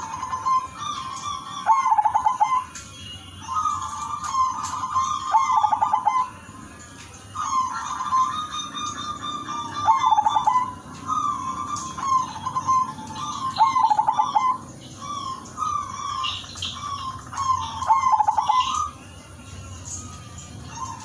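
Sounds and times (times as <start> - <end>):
dove cooing song: 0.0 - 21.0.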